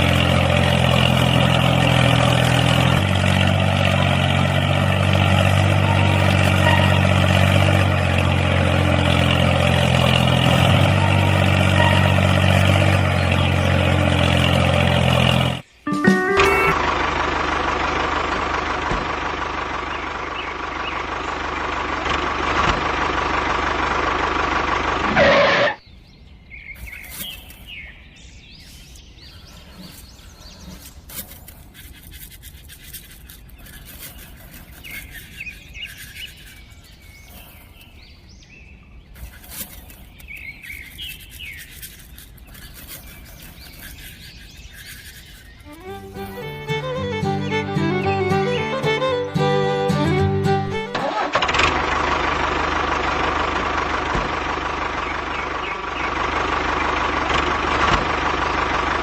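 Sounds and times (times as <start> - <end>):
birds chirping quietly: 0.0 - 16.8, 18.8 - 24.6, 25.6 - 50.9, 52.7 - 59.0.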